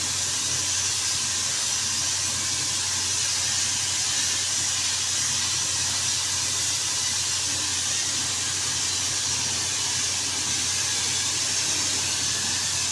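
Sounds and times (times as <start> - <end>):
paint spray gun hissing: 0.0 - 12.9.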